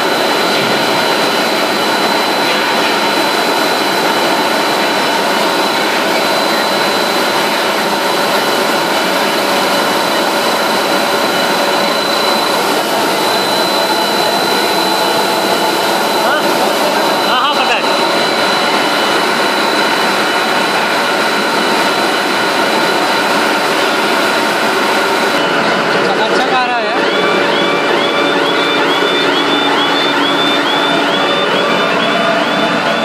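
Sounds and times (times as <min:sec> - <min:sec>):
high-pitched machine whine: 0:00.0 - 0:33.0
industrial machinery running: 0:00.0 - 0:33.0.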